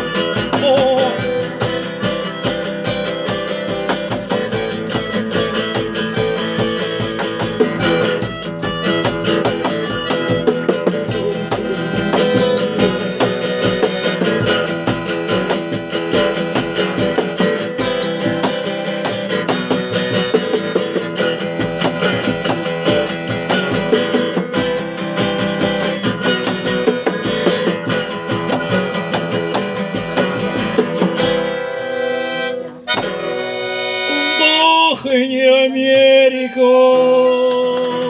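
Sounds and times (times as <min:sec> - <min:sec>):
rock band playing: 0:00.0 - 0:34.8.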